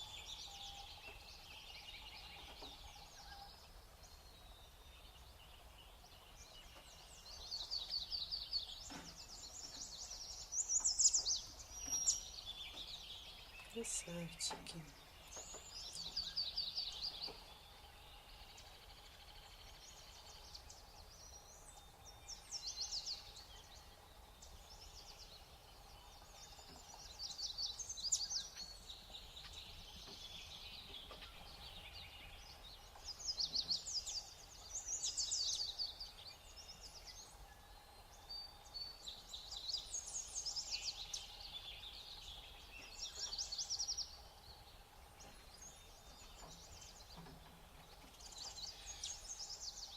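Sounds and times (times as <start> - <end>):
songbirds twittering trills: 0.0 - 49.9.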